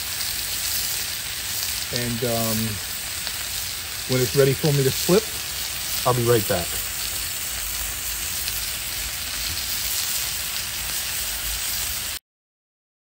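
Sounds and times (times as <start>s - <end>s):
fish sizzling on a griddle: 0.0s - 12.2s.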